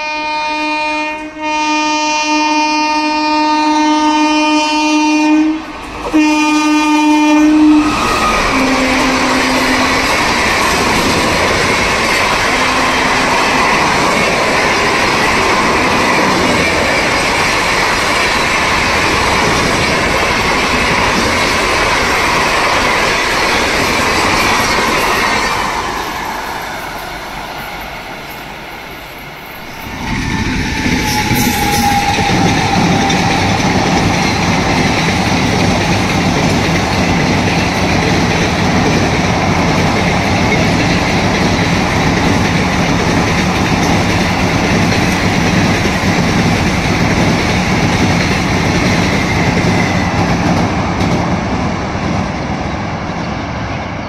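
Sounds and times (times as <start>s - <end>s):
passenger train running past: 0.0s - 54.0s.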